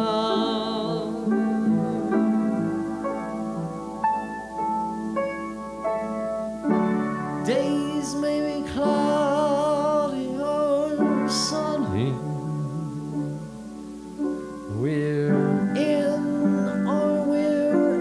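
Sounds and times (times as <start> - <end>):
person singing with vibrato: 0.0 - 4.6, 6.5 - 18.0
piano accompaniment: 0.0 - 18.0.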